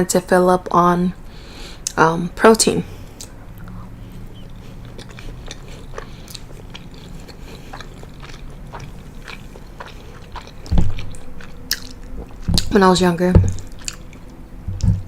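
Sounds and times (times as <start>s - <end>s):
faint low hum: 0.0s - 15.0s
wet chewing mouth sounds: 2.8s - 15.0s.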